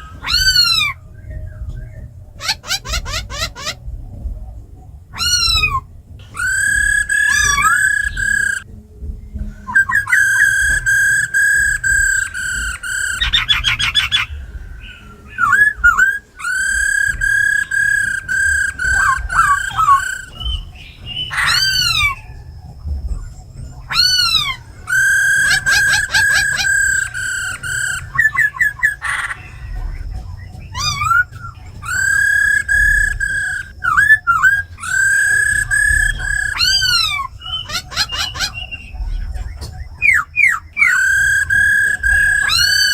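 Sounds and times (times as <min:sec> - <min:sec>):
bird singing whistled phrases: 0:00.0 - 0:04.2, 0:05.1 - 0:08.7, 0:09.3 - 0:42.9.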